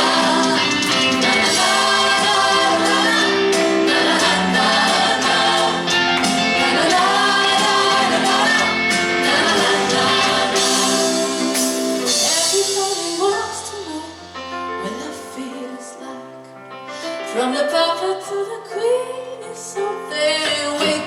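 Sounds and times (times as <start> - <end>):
pop song with singing: 0.0 - 21.0.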